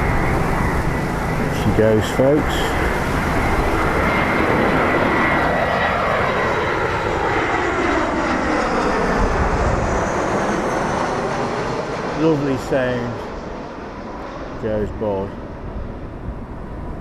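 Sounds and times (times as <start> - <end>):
high engine whine: 0.0 - 17.0
jet engines rumbling: 0.0 - 17.0.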